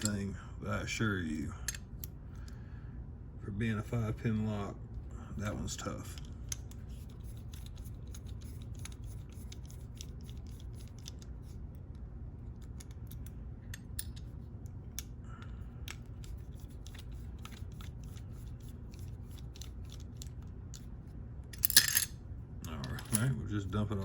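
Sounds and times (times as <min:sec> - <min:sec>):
lock parts clicking and scraping: 0:00.0 - 0:00.3, 0:01.6 - 0:02.6, 0:05.4 - 0:23.6.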